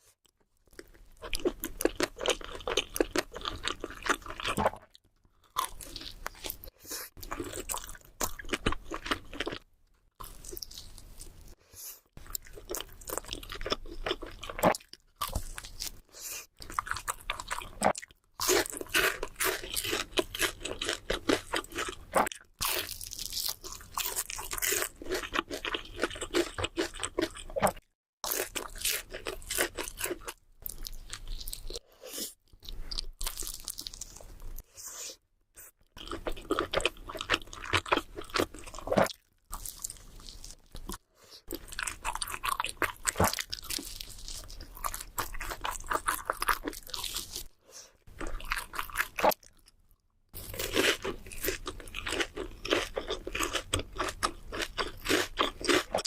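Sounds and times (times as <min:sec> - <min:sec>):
crunchy chewing: 0:00.6 - 0:09.6, 0:12.2 - 0:49.7, 0:50.4 - 0:56.0.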